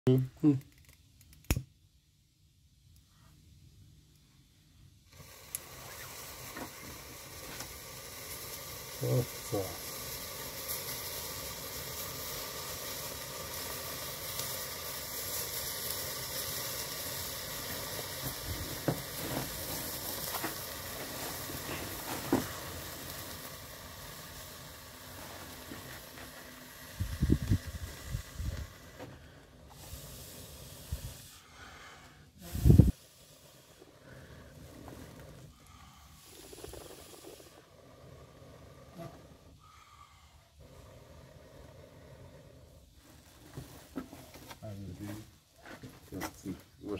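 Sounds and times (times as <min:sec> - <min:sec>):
charcoal hissing and crackling: 0:00.1 - 0:46.9.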